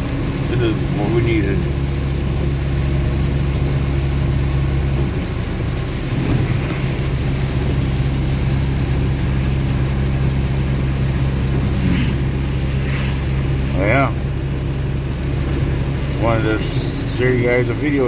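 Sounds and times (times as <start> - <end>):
pickup engine idling: 0.0 - 18.0
rain hissing: 0.0 - 18.0.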